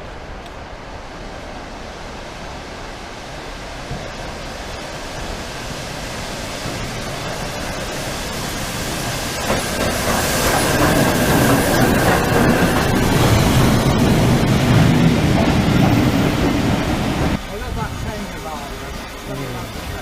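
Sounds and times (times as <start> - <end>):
steam train rumble and wheel clicks: 2.0 - 20.0.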